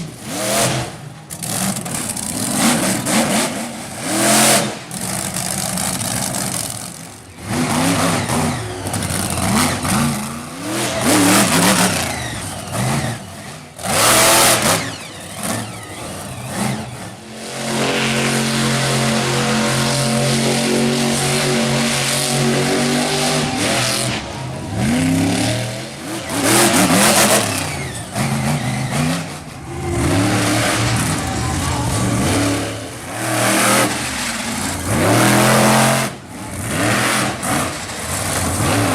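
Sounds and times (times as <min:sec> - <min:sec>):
monster truck engine revving: 0:00.0 - 0:38.9.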